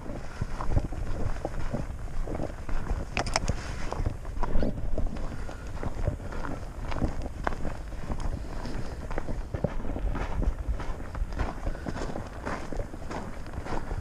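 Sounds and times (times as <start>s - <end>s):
footsteps on dirt trail: 0.0s - 14.0s
wind rumble on microphone: 0.0s - 14.0s.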